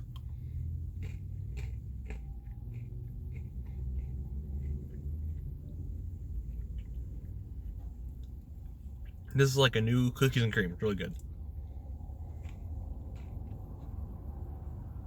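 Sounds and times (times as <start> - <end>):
person chewing: 0.0 - 9.3, 11.2 - 14.8
steady low rumble: 0.0 - 15.0.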